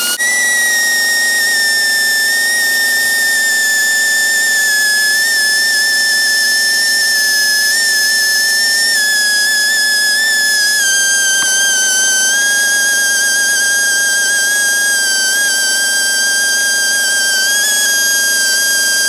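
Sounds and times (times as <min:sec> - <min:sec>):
power tool high-pitched whine: 0:00.0 - 0:19.0.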